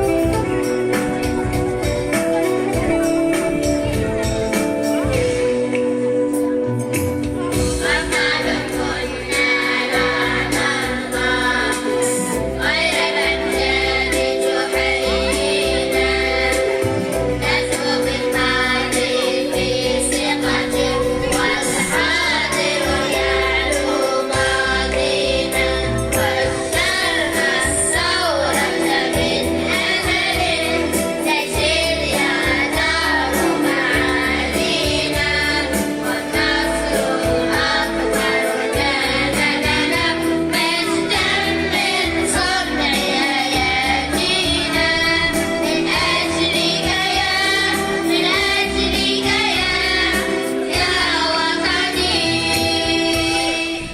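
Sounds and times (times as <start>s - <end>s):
instrumental backing with beat: 0.0s - 53.9s
group of voices singing: 7.5s - 53.9s.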